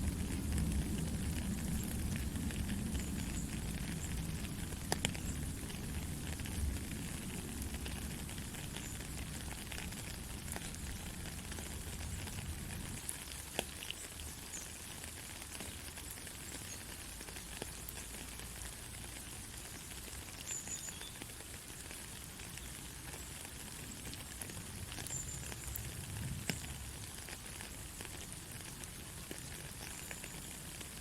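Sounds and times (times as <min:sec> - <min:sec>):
drip ticks: 0:00.0 - 0:31.0
soft rain hiss: 0:00.0 - 0:31.0.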